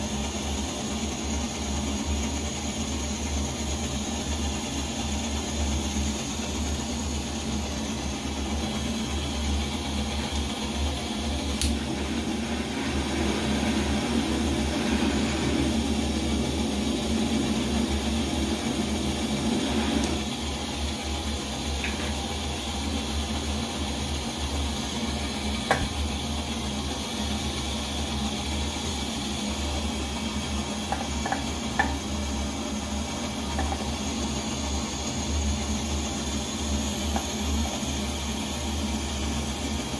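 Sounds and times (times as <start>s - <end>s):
stove burner roaring: 0.0s - 39.9s.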